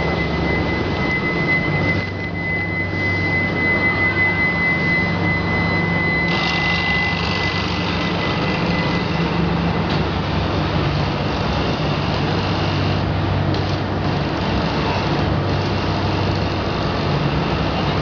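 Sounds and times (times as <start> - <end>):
furnace low hum: 0.0 - 18.0
high whine: 0.0 - 18.0.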